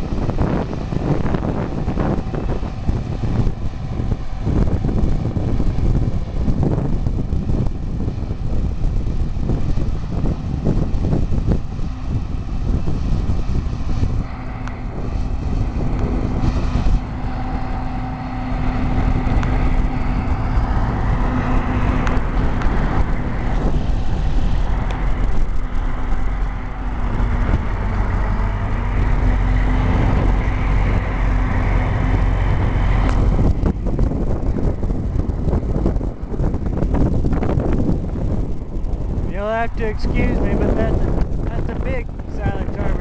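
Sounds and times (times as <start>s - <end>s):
forage harvester engine droning: 0.0s - 43.0s.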